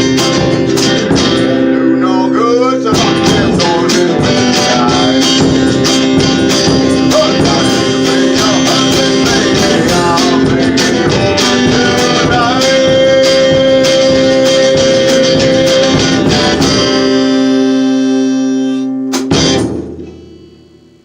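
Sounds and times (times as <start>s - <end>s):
percussion beat: 0.0s - 1.6s, 2.9s - 17.2s, 19.1s - 20.7s
person singing: 0.0s - 17.6s
guitar playing: 0.0s - 21.0s.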